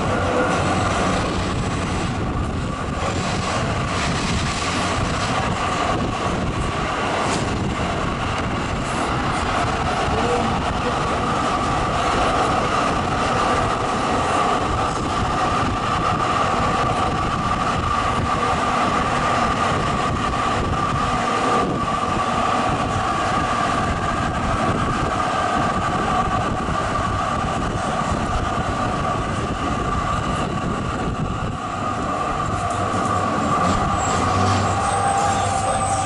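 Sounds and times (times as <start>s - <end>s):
tram rolling on track: 0.0s - 36.0s.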